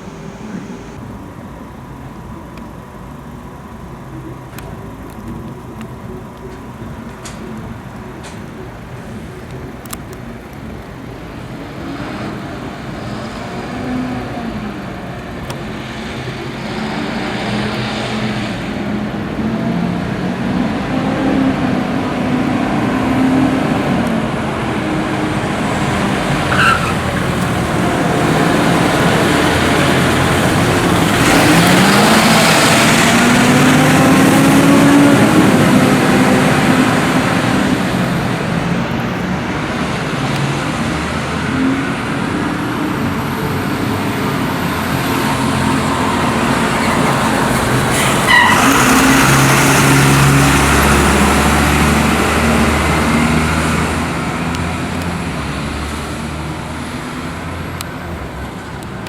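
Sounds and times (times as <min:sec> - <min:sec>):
fire engines revving: 0:00.0 - 0:59.0.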